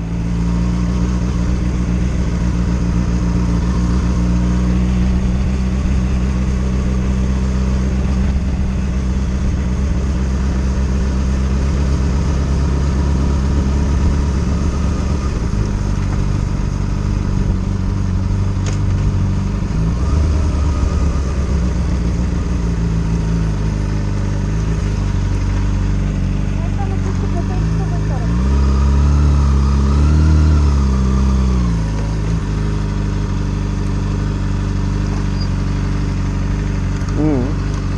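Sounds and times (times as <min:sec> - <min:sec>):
motorcycle engine cruising: 0:00.0 - 0:37.9.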